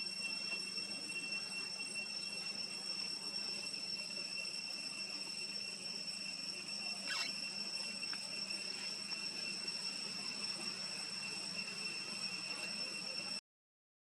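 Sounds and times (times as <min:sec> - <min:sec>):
high-pitched insect drone: 0:00.0 - 0:13.4.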